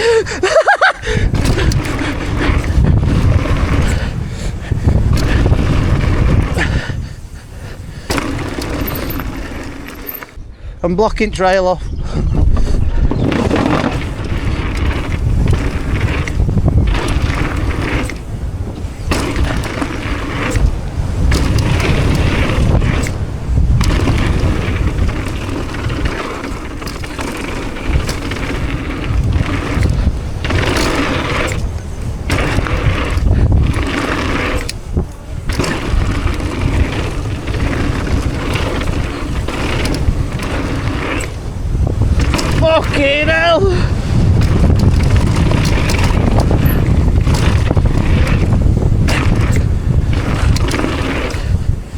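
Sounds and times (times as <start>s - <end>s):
tyre roar on dirt trail: 0.0s - 10.6s, 12.0s - 51.9s
bike rattling: 0.0s - 51.9s
wind buffeting microphone: 0.0s - 51.9s.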